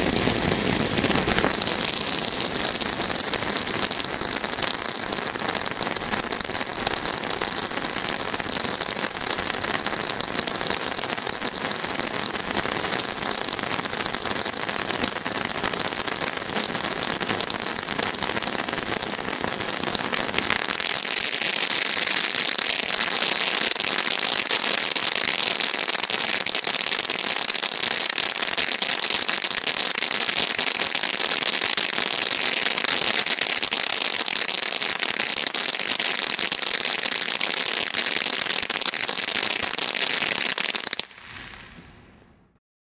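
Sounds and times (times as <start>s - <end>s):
firework fountain hissing and crackling: 0.0s - 42.2s.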